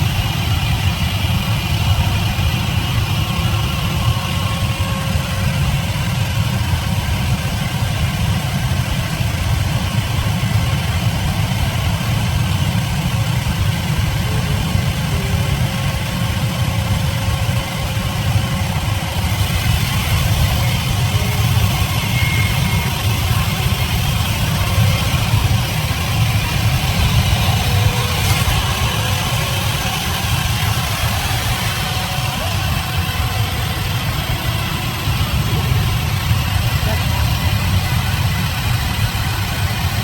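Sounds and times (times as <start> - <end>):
sawmill machinery drone: 0.0 - 40.0.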